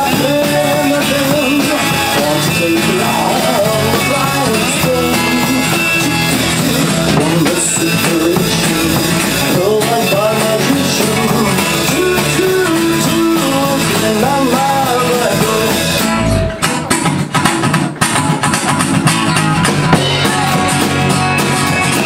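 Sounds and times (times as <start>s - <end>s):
pitch-bending lead guitar line: 0.0s - 22.0s
rock and roll band playing: 0.0s - 22.0s.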